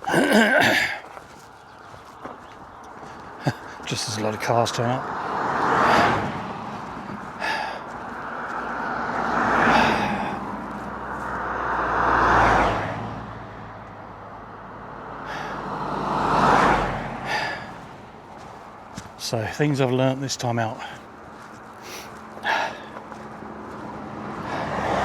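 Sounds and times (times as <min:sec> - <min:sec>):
cars passing by: 0:00.0 - 0:25.0.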